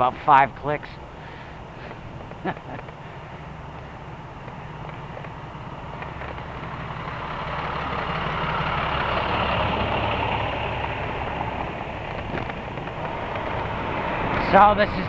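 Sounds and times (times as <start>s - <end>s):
rushing traffic: 0.0s - 15.0s
truck engine low hum: 0.0s - 15.0s.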